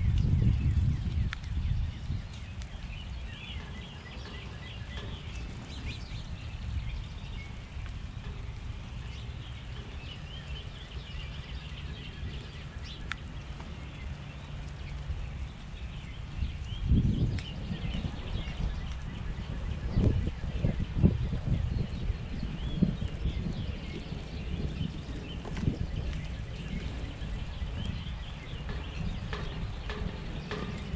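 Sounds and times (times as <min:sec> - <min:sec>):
low rumble: 0:00.0 - 0:30.9
songbirds chirping: 0:00.0 - 0:30.9.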